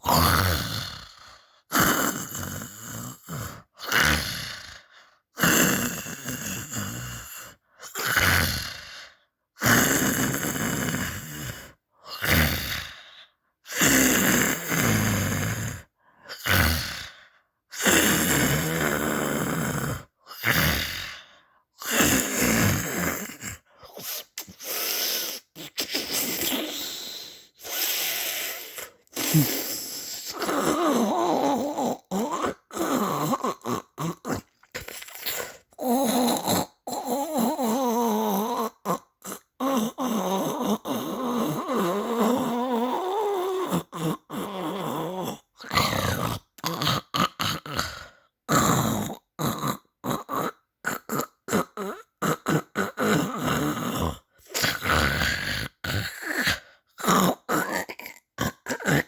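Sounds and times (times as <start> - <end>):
snoring and grunting: 0.0 - 24.6, 28.1 - 34.7, 35.8 - 59.0.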